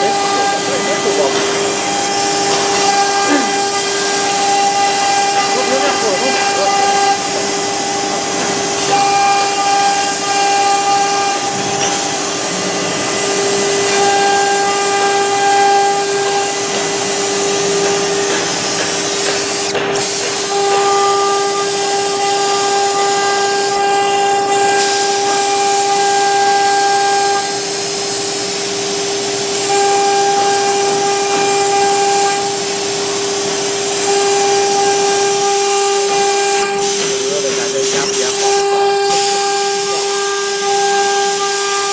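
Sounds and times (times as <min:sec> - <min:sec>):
cnc router spindle whine: 0:00.0 - 0:41.9
router bit cutting hiss: 0:00.0 - 0:41.9.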